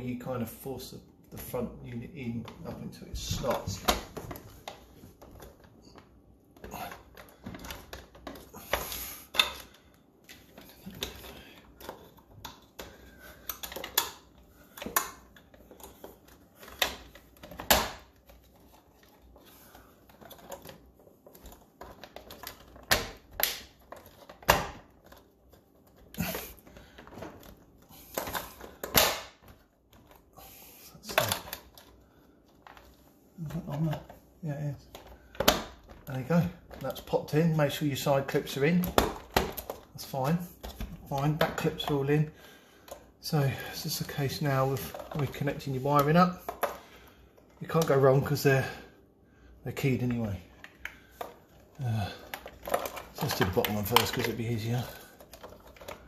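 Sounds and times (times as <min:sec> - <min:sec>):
plastic parts clicking and rattling: 0:01.4 - 0:48.9, 0:49.7 - 0:56.0.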